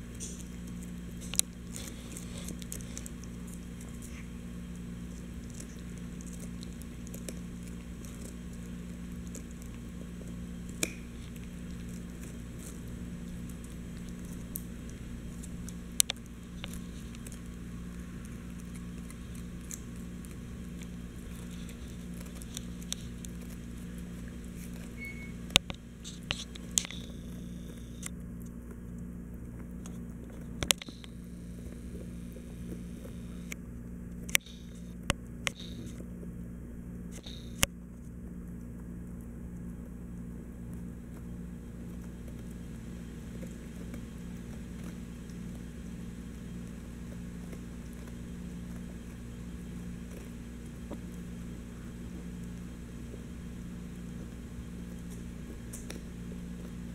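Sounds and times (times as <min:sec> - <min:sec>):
teeth clicking on rawhide: 0:00.0 - 0:36.2, 0:37.1 - 0:56.9
dog chewing rawhide: 0:00.0 - 0:56.9
steady low hum: 0:00.0 - 0:56.9.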